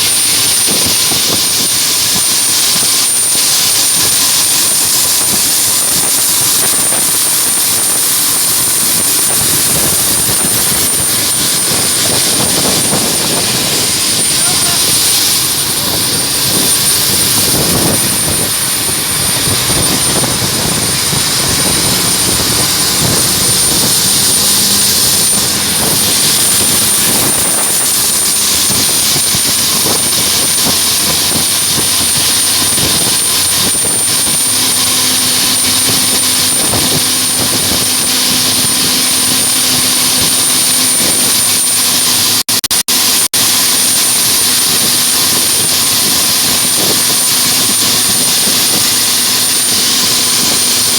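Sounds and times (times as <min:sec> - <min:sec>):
jet engines with high whine: 0:00.0 - 0:50.9.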